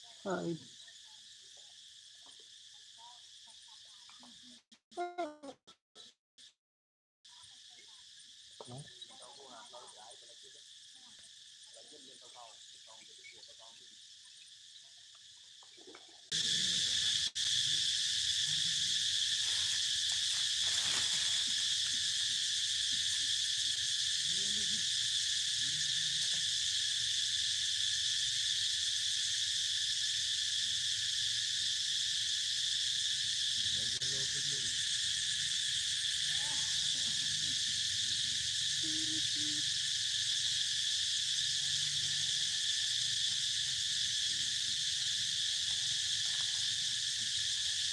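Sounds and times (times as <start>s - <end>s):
insects buzzing shrilly: 0.0s - 6.1s, 7.3s - 47.9s.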